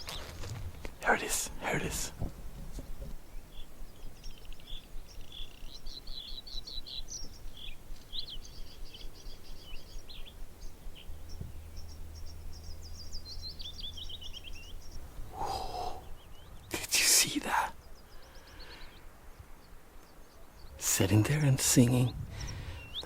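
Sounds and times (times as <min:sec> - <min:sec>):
bird singing chirps and trills: 0:00.0 - 0:23.0.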